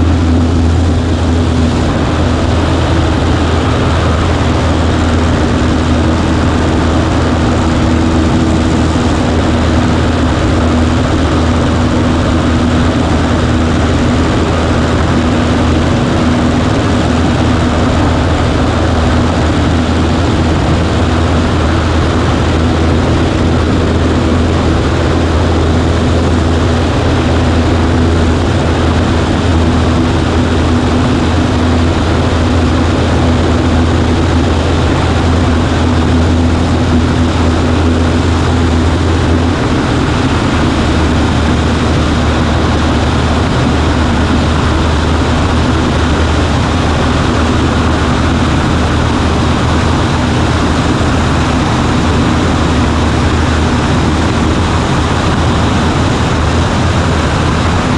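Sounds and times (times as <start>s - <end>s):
propeller plane engine droning: 0.0s - 57.9s.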